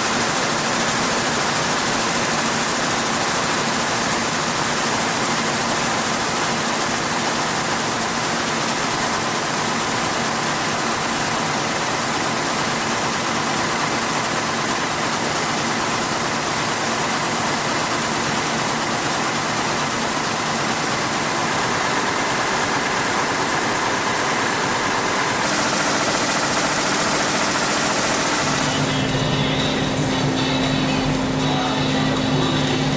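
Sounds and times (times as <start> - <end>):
weaving looms running: 0.0 - 32.9.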